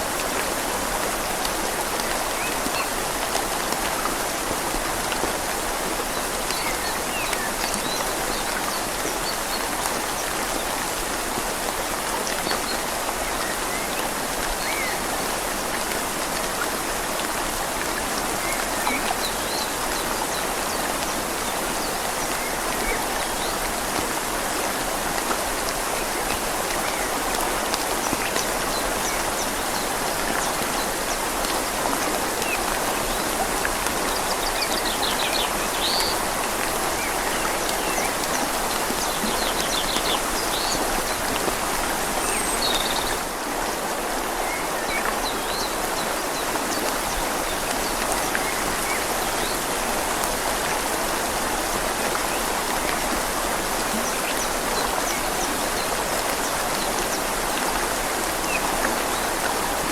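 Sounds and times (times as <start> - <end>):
flowing river: 0.0 - 59.9
rain falling on leaves: 0.0 - 59.9.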